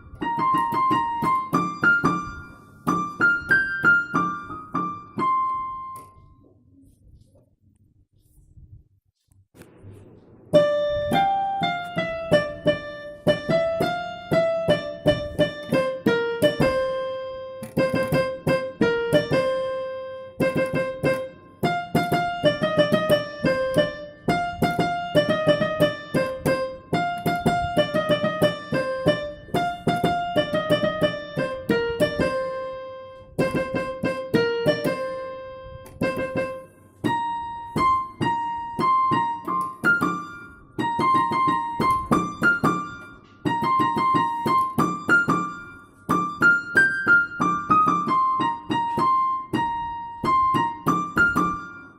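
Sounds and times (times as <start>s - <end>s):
piano melody: 0.0s - 6.6s, 9.6s - 51.9s.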